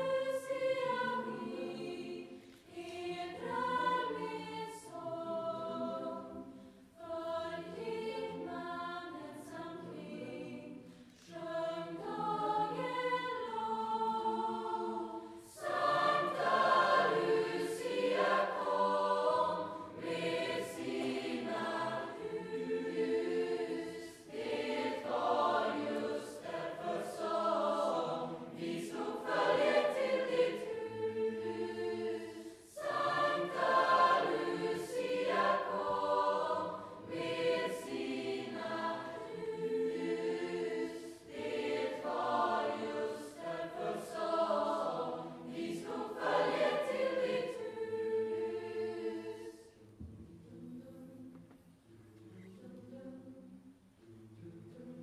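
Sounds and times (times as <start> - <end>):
large choir singing: 0.0 - 55.0.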